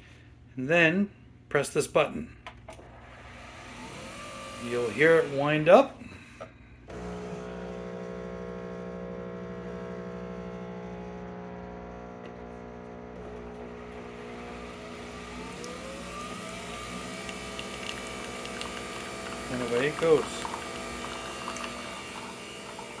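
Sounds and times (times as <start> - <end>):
coffee machine pump humming: 2.7 - 6.0, 6.9 - 23.0.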